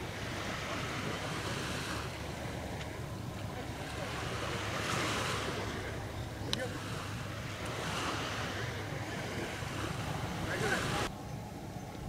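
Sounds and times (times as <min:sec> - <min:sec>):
small waves washing on shore: 0:00.0 - 0:12.0
wind rumbling on microphone: 0:00.0 - 0:12.0.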